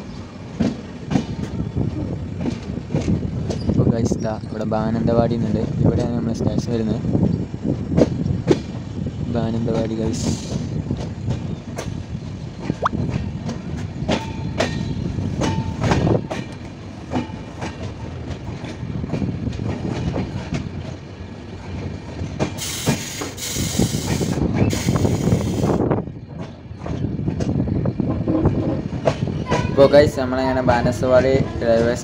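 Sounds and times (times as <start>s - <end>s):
train wheels clacking on rails: 0.0s - 4.2s, 7.8s - 8.9s, 9.5s - 30.0s.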